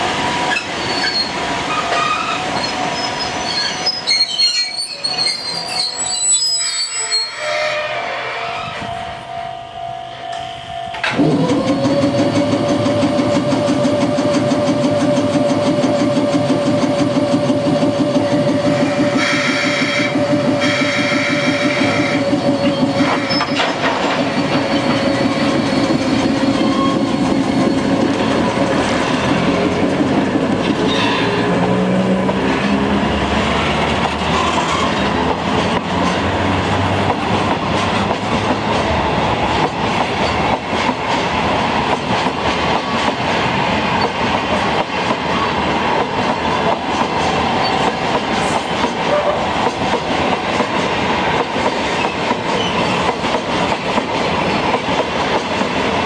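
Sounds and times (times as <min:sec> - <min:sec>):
electric locomotive humming: 0:00.0 - 0:56.0
train wheels clattering on rail: 0:10.3 - 0:56.0.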